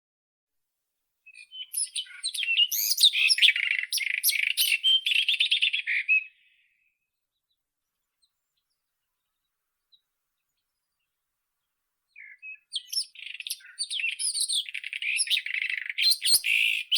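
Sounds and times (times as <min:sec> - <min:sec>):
bird singing varied notes: 0:01.3 - 0:16.9.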